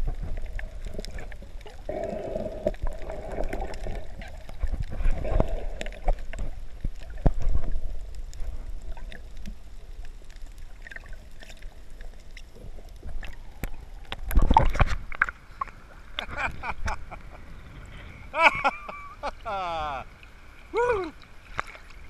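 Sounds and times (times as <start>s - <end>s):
water sloshing and gurgling: 0.0s - 22.0s
water splashing: 0.0s - 22.0s.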